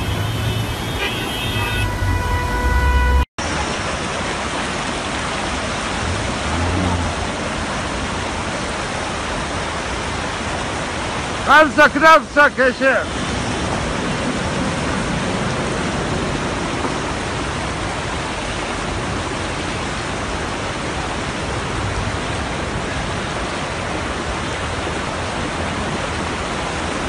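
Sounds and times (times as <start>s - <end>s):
flood torrent rushing: 0.0s - 27.0s.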